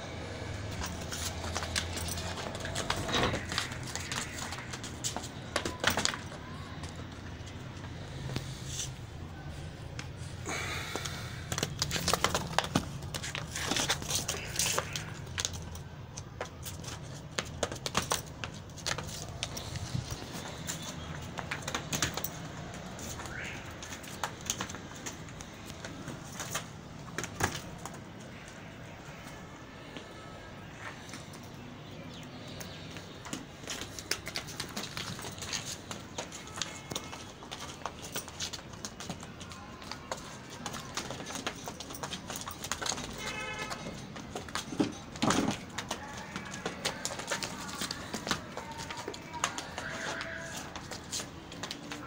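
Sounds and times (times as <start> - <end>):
goat hooves on concrete: 0.0 - 52.0.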